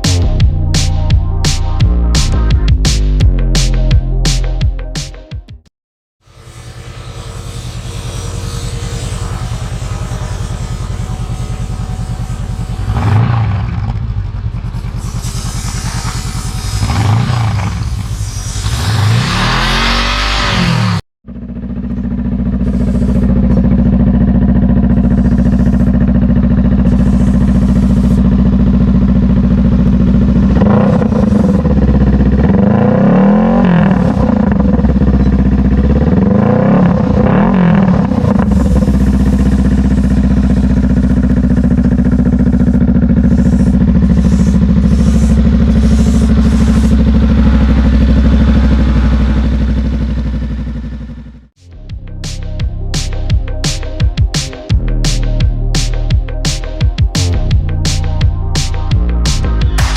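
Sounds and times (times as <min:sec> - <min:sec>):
motorcycle engine revving: 0:06.2 - 0:59.9
motorcycle engine idling: 0:06.3 - 0:18.4, 0:21.3 - 0:59.9.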